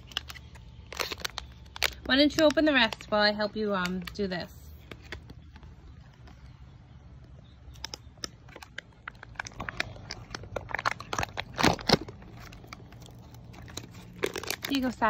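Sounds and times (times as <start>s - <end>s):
plastic packaging crinkling: 0.0s - 6.5s, 7.7s - 15.0s.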